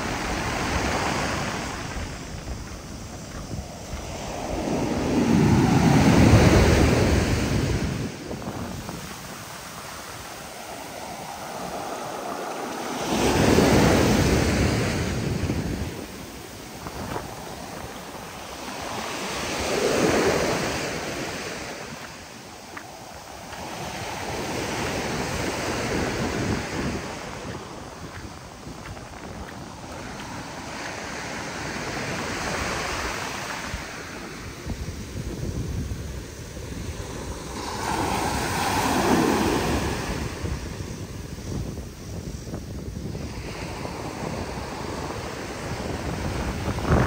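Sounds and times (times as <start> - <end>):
steady wash of water: 0.0 - 41.7
waves breaking on beach: 0.0 - 47.0.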